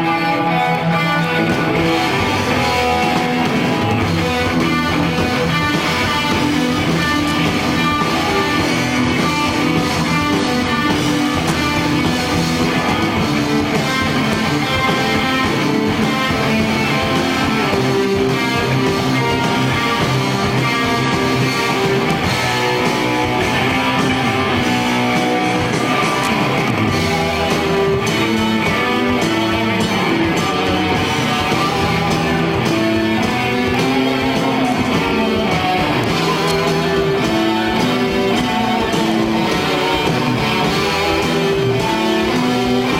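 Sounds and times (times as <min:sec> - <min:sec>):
electric guitar: 0:00.0 - 0:42.9
rock band playing live: 0:00.0 - 0:42.9.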